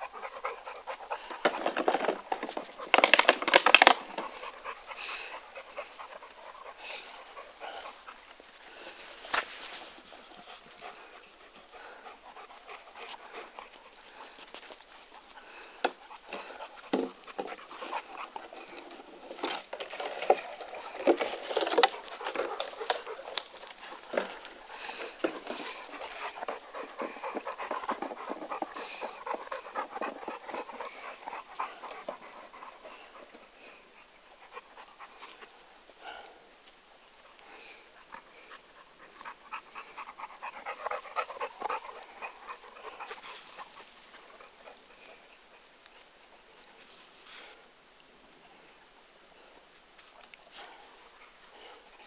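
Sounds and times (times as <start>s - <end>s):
dog panting: 0.0s - 47.6s, 49.3s - 52.0s.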